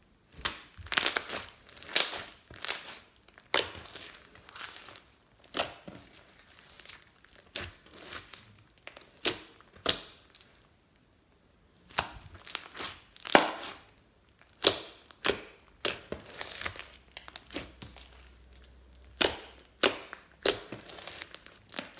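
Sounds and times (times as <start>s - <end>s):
slime popping and crackling: 0.3s - 10.6s, 11.8s - 21.9s.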